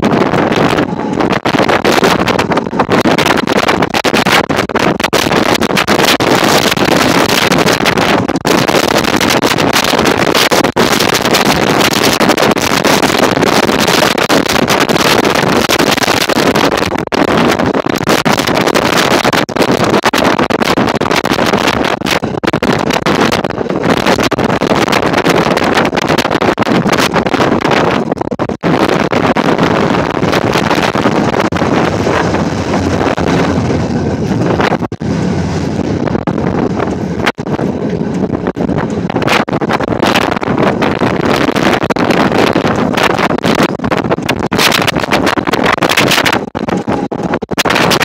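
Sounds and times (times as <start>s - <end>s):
tram rolling along street: 0.0s - 47.8s
wind buffeting microphone: 0.0s - 48.0s.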